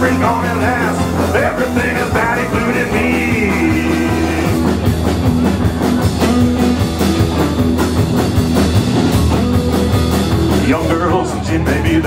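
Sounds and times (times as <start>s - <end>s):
drum kit steady beat: 0.0s - 12.0s
electric guitars: 0.0s - 12.0s
low bass line: 0.0s - 12.0s.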